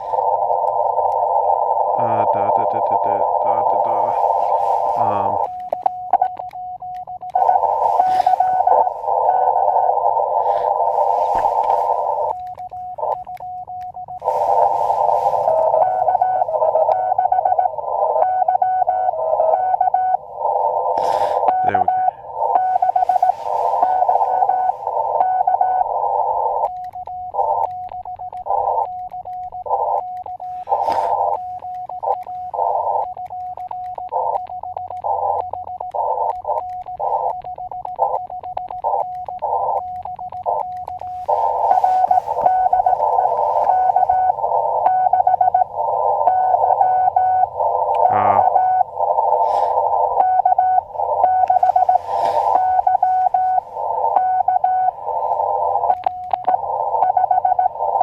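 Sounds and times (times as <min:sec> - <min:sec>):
morse code tones: 0:00.0 - 0:58.0
radio receiver hiss: 0:00.0 - 0:58.0.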